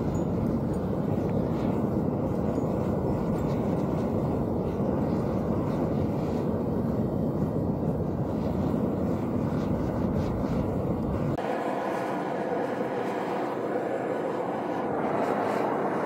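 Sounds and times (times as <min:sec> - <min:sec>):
gas burner rushing: 0:00.0 - 0:16.0.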